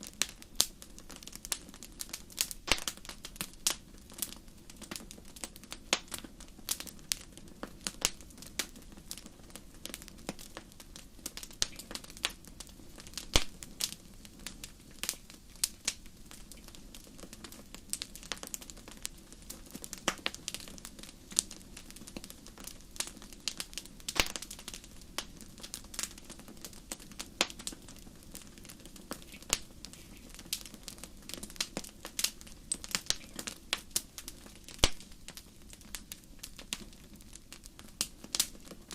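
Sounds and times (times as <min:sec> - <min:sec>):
bonfire crackling: 0:00.0 - 0:38.9.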